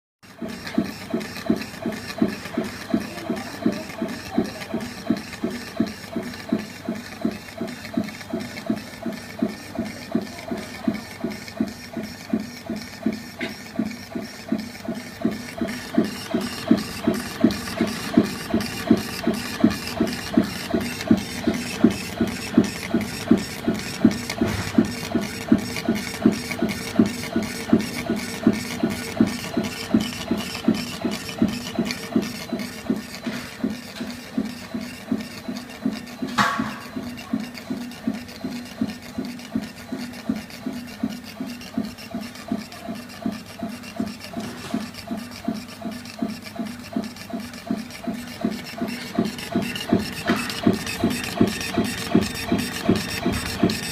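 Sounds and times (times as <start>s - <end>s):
steady machine hum: 0.3s - 53.9s
laser carriage knocking: 0.4s - 53.9s.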